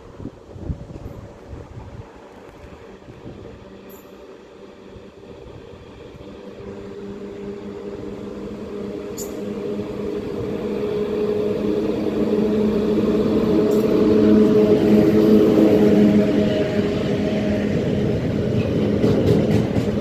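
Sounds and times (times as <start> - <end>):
electric locomotive hum: 0.0 - 20.0
train wheels rumbling on rail: 0.0 - 20.0.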